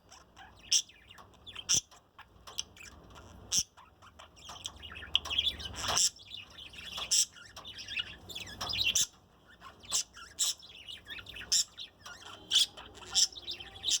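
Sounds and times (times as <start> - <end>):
budgerigar chirping: 0.0 - 14.0.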